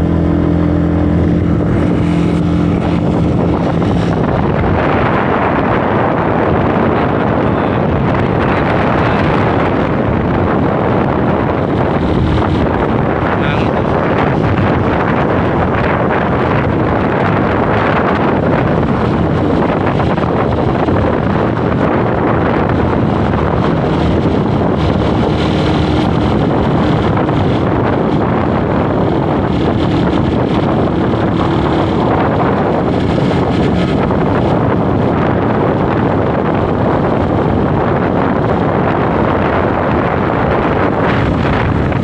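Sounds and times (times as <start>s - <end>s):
motorcycle engine running: 0.0s - 42.0s
wind noise on microphone: 0.0s - 42.0s.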